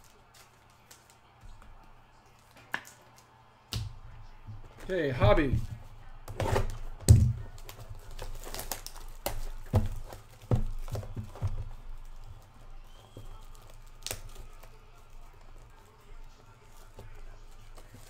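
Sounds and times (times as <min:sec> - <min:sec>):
plastic wrap crinkling: 0:00.0 - 0:03.3, 0:04.8 - 0:18.0.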